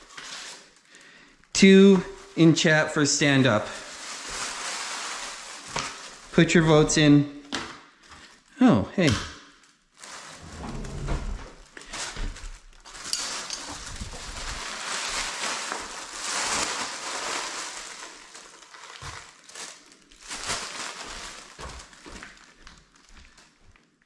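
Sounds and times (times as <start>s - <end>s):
rustling and crinkling handling: 0.0s - 8.6s, 9.5s - 24.0s.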